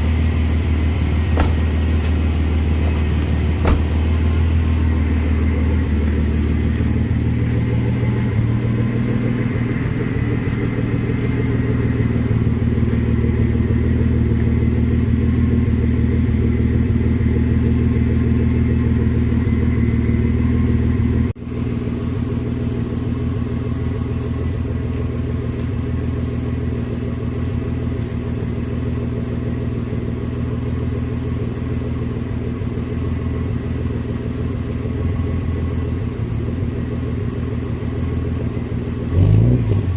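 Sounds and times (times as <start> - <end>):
car engine exhaust drone: 0.0 - 39.9.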